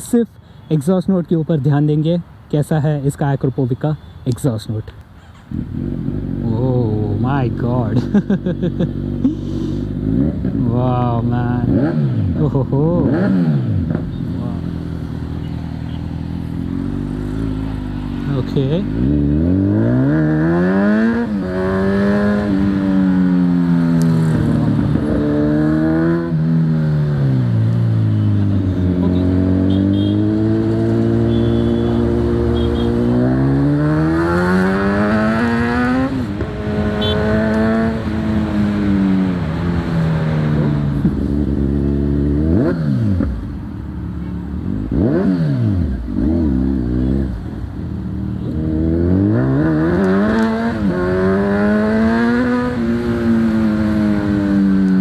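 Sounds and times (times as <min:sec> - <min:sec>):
motorcycle engine revving: 0:05.5 - 0:55.0.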